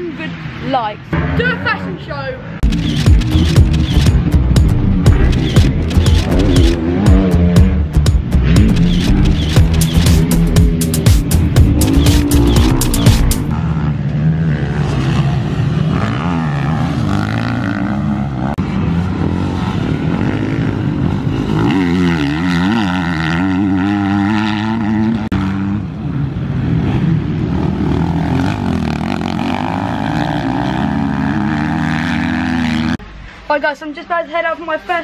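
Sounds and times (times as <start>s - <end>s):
dirt bike engines revving: 0.0s - 33.1s.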